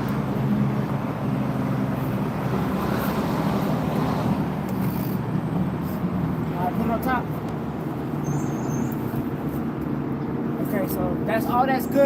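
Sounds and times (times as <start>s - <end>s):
constant rumble: 0.0s - 12.0s
low engine hum: 0.0s - 12.0s.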